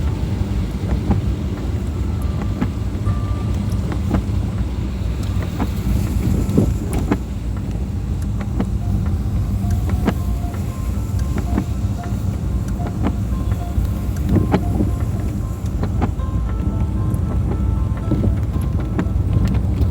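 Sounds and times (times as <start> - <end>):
car driving on wet road: 0.0 - 19.9
sharp ticks: 0.0 - 19.9.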